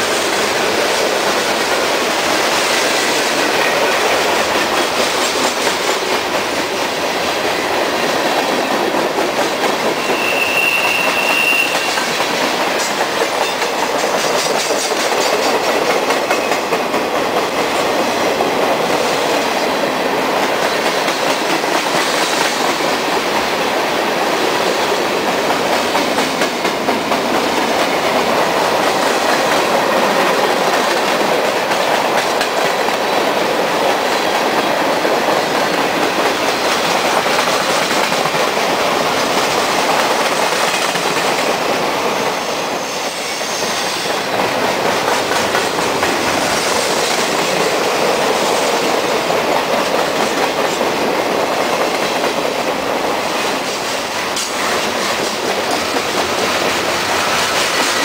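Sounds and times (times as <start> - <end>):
train wheels on rail: 0.0 - 58.0.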